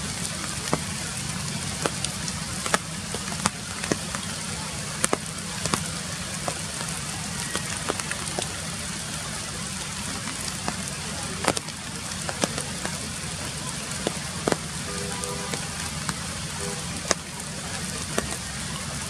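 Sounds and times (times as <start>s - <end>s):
rain falling through trees: 0.0s - 19.0s.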